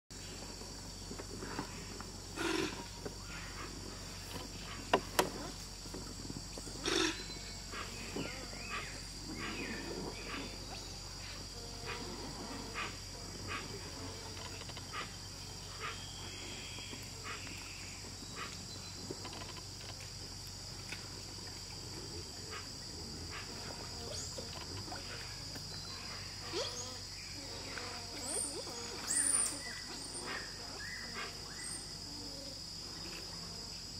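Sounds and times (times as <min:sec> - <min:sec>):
insects droning: 0:00.1 - 0:33.9.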